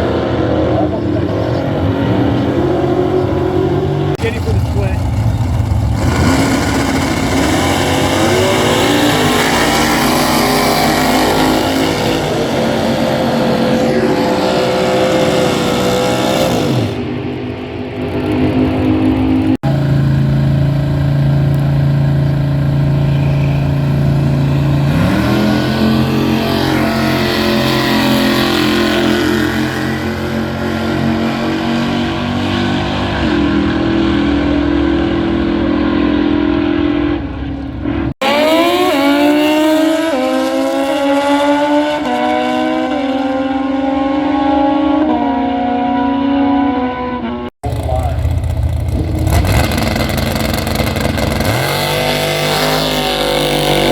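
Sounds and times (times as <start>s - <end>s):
drag racing engines revving: 0.0s - 53.9s.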